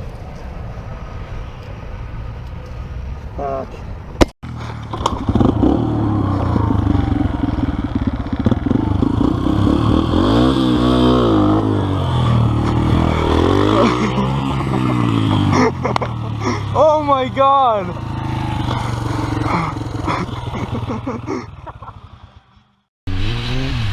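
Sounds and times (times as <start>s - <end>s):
motorcycle engine revving: 4.4s - 23.9s.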